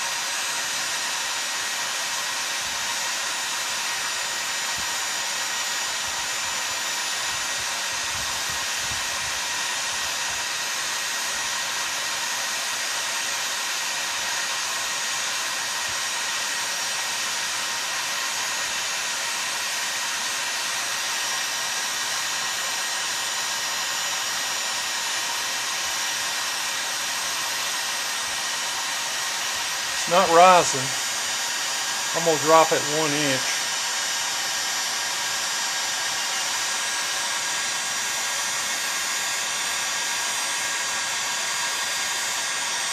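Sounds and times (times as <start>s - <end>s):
heat gun blowing: 0.0s - 42.9s.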